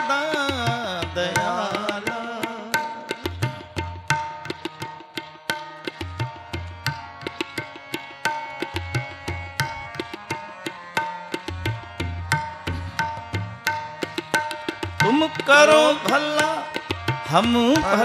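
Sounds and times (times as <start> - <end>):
harmonium held notes: 0.0 - 18.0
tabla strokes: 0.0 - 18.0.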